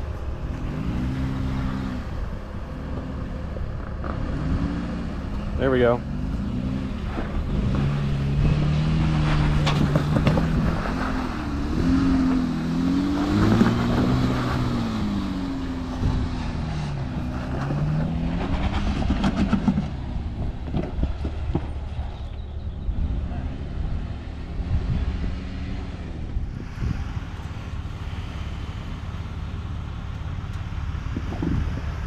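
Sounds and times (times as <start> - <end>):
off-road vehicle engine under load: 0.0 - 32.0.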